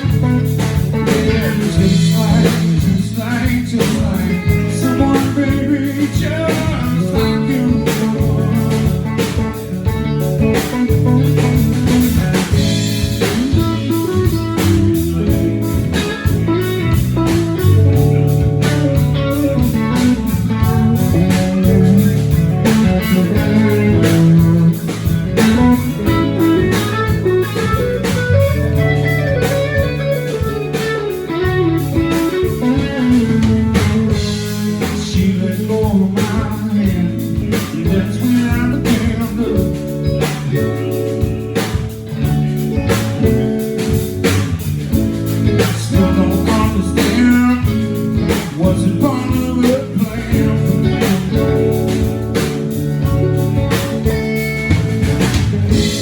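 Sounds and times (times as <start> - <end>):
blues-rock band playing: 0.0 - 56.0.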